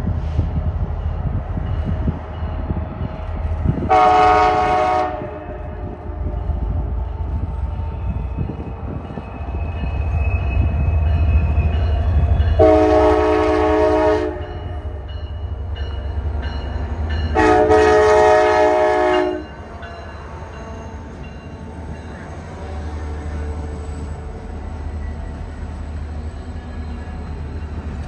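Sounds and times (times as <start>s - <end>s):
diesel locomotives rumbling: 0.0s - 28.0s.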